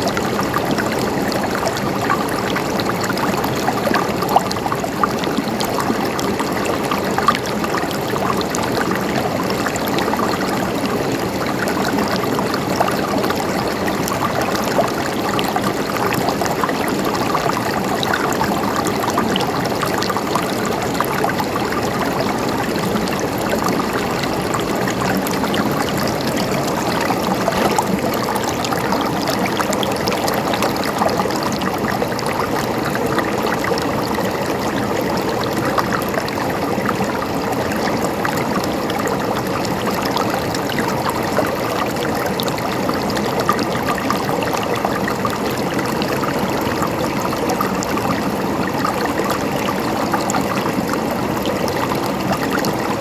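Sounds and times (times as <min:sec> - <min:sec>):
small water splashes: 0:00.0 - 0:53.0
stream flowing and gurgling: 0:00.0 - 0:53.0.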